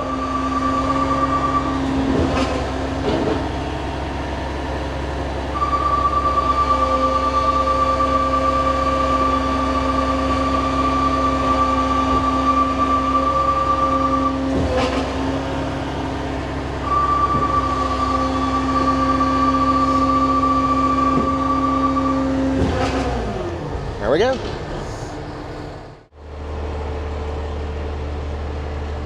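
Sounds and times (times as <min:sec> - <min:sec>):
truck engine low rumble: 0:00.0 - 0:29.0
truck mechanical whine: 0:00.0 - 0:29.0.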